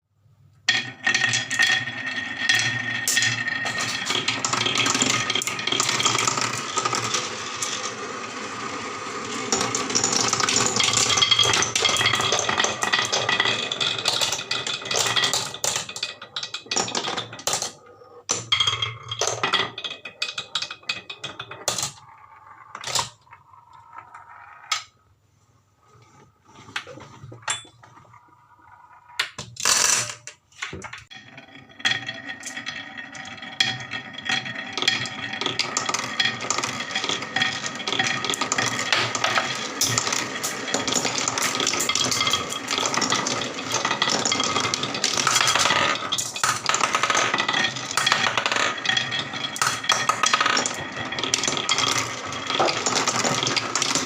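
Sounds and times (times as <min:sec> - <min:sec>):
marbles rattling down wooden track: 0:00.7 - 0:25.0, 0:26.7 - 0:54.0.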